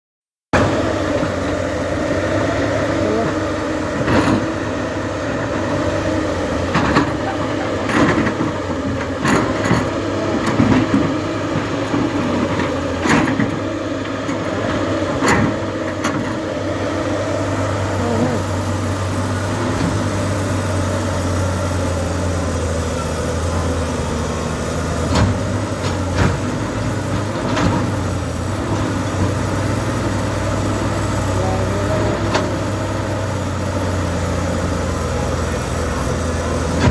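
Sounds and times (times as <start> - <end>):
diesel engine running: 0.6 - 36.9.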